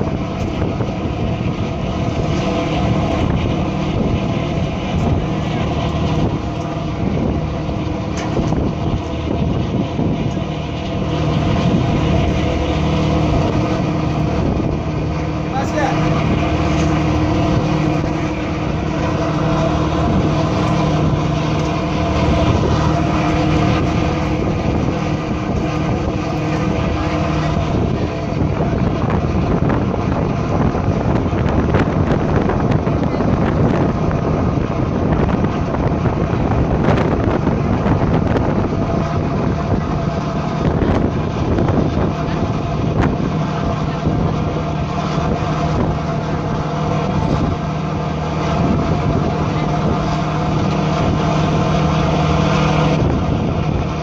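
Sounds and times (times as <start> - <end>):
boat engine hum: 0.0 - 54.0
wind and water rushing: 0.0 - 54.0.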